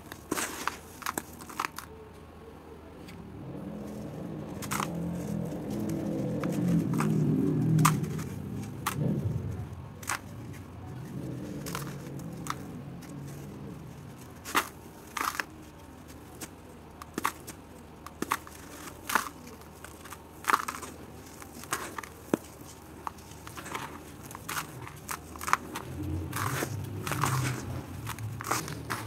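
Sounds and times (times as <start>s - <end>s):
wet dirt crumbling by hand: 3.7s - 29.0s.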